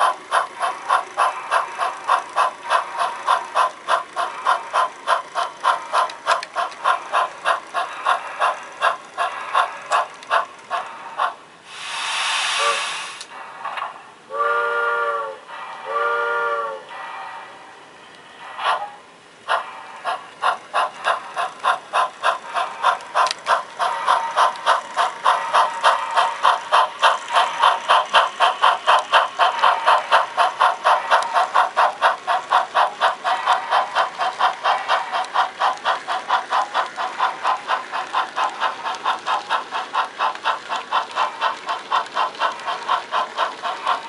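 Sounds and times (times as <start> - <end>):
model steam locomotive chuffing: 0.0 - 44.0.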